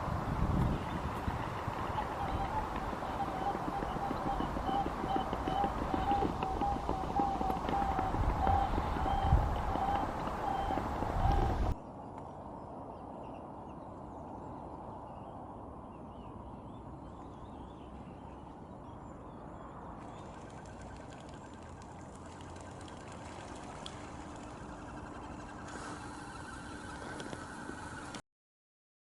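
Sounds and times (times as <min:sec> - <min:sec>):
faint steady tone: 0:00.7 - 0:28.2.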